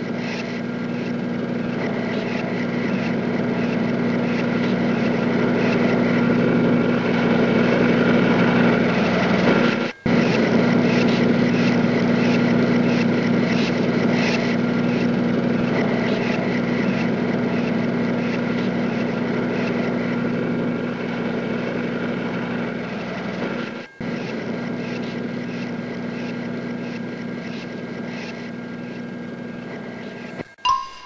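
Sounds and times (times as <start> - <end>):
vehicle engine drone: 0.0 - 30.5.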